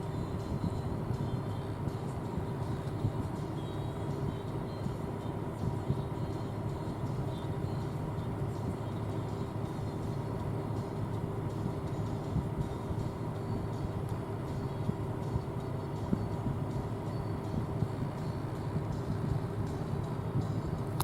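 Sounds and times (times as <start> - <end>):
combine harvester drone: 0.0 - 21.0
high machine whine: 0.0 - 21.0.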